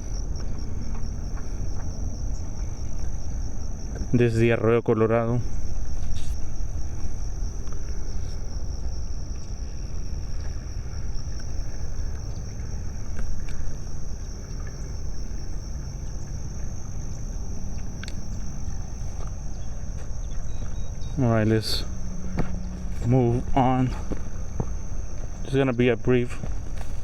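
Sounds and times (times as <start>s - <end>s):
high-pitched insect drone: 0.0s - 27.0s
low rumble: 0.0s - 27.0s.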